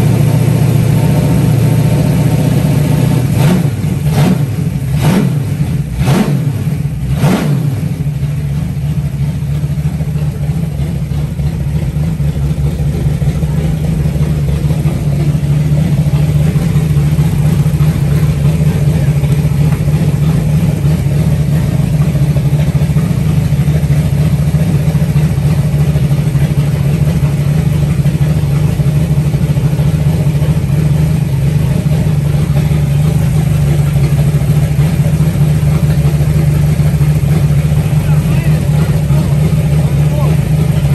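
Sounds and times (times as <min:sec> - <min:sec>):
engine revving and idling: 0:00.0 - 0:40.9.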